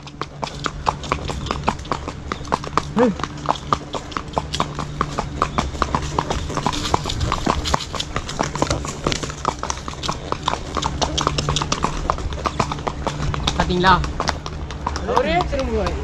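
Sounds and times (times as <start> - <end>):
hooves clip-clopping on pavement: 0.0 - 16.0.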